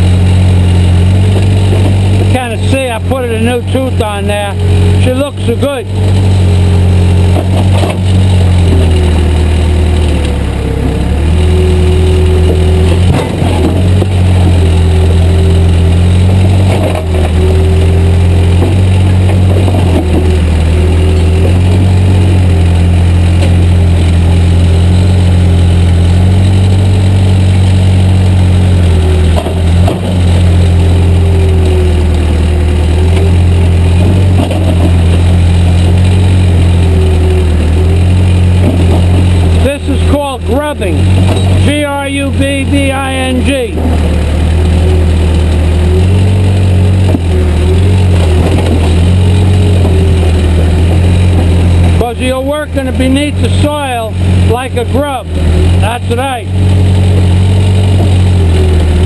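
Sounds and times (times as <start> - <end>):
backhoe diesel engine: 0.0 - 59.0.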